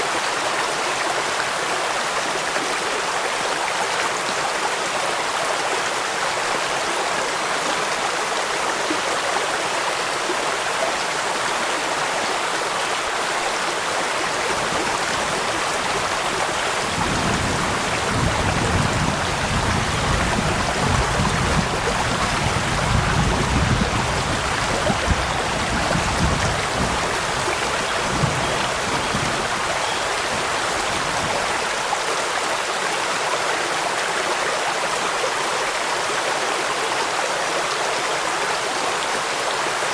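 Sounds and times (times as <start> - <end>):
flowing stream water: 0.0 - 39.9
steady rain: 0.0 - 39.9.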